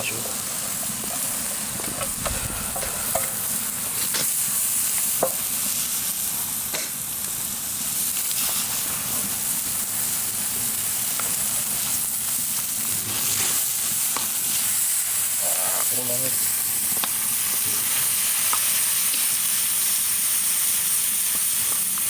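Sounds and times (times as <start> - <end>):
food sizzling in fat: 0.0 - 22.0.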